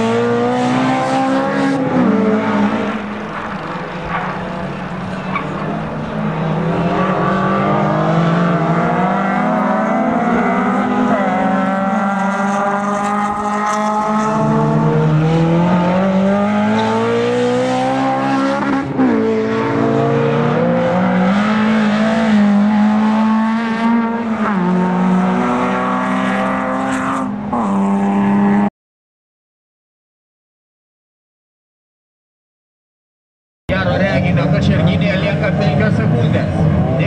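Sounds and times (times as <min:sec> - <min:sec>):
racing car engines revving: 0:00.0 - 0:28.7, 0:33.7 - 0:37.0.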